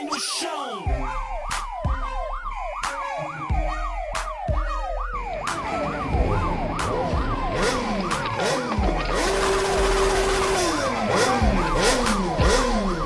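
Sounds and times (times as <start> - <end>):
drum beat and deep bass: 0.9 - 13.0
siren sound effect: 0.9 - 13.0.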